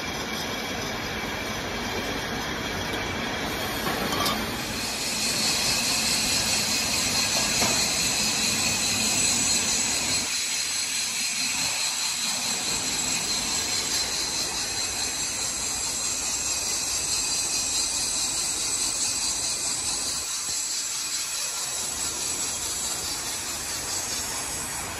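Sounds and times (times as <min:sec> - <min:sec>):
machinery running with high hiss: 0:00.0 - 0:24.9.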